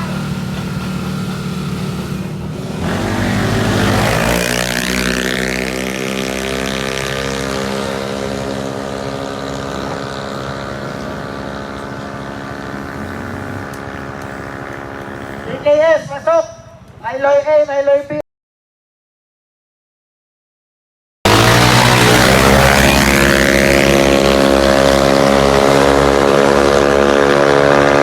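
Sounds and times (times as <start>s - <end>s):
scooter engine passing at high revs: 0.0s - 15.8s, 21.3s - 28.0s.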